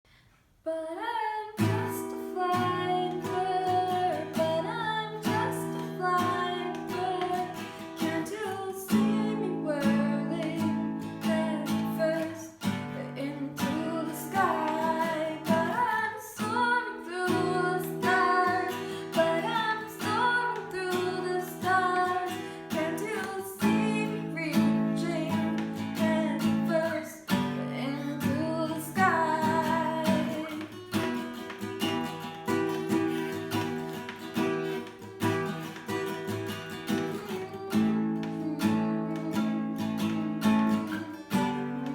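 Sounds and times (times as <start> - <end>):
person singing: 0.7 - 30.8, 37.1 - 41.9
acoustic guitar strumming: 1.6 - 41.9.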